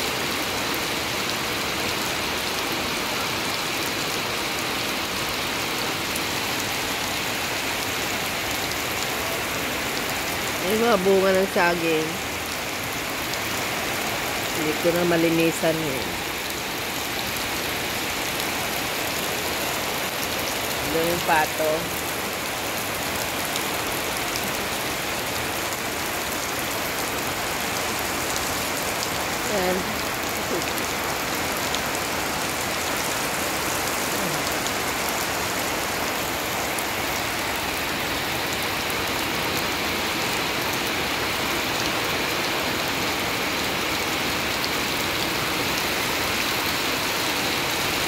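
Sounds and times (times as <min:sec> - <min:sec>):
rain falling on leaves and mud: 0:00.0 - 0:48.0.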